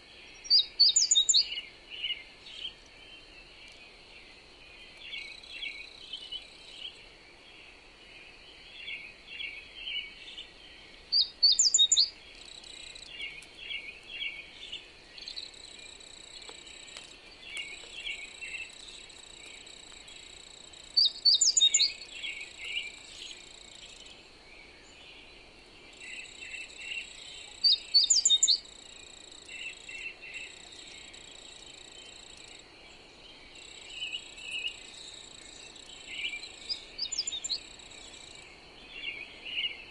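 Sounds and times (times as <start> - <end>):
birds chirping: 0.0 - 39.9
faint wind hiss: 0.0 - 39.9.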